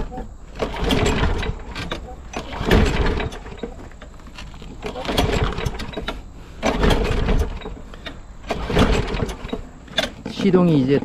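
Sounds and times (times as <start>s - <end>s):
engine turning over: 0.0s - 10.7s
lawn mower recoil starter pulled: 0.0s - 10.8s.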